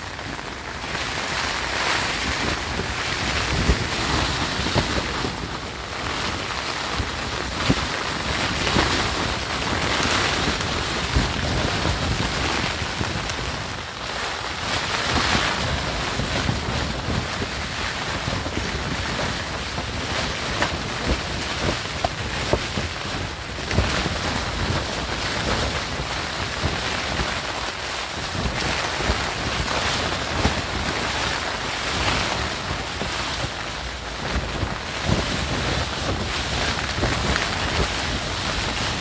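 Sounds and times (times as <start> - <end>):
rain: 0.0 - 39.0.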